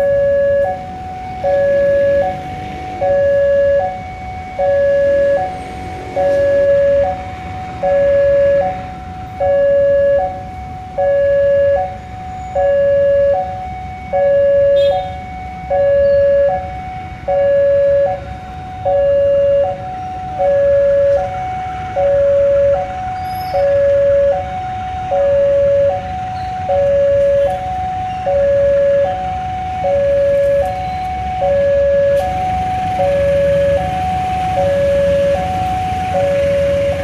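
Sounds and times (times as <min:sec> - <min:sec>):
level crossing warning alarm: 0:00.0 - 0:37.0.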